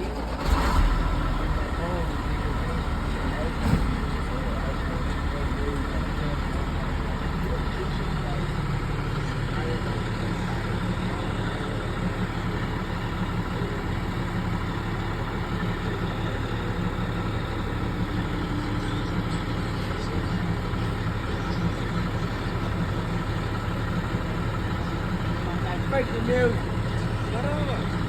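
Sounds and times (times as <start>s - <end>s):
crane engine humming: 0.0s - 28.0s.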